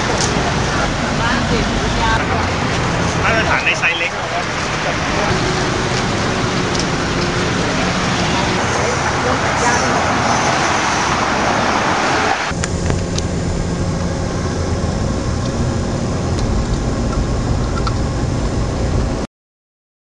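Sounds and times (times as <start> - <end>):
road traffic passing: 0.0 - 19.2.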